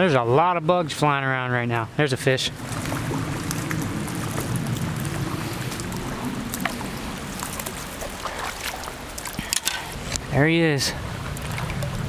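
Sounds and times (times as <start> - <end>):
shallow stream running: 0.0 - 12.0.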